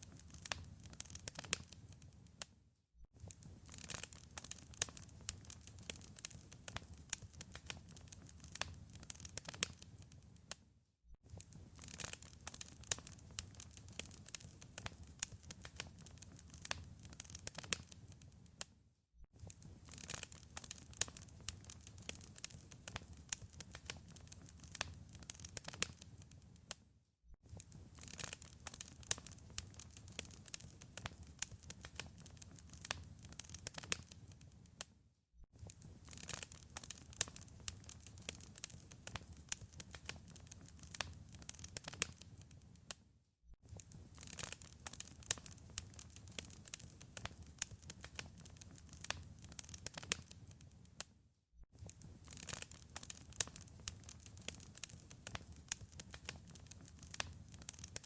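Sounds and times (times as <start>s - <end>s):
wood fire crackling: 0.0s - 2.4s, 3.2s - 10.6s, 11.3s - 18.7s, 19.4s - 26.8s, 27.5s - 34.9s, 35.6s - 42.9s, 43.7s - 51.0s, 51.8s - 58.0s.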